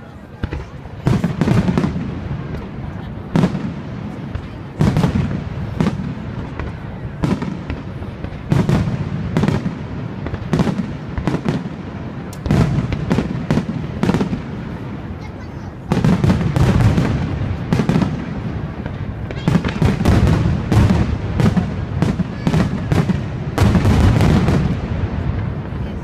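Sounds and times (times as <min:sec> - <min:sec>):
low rumbling echo: 0:00.0 - 0:26.0.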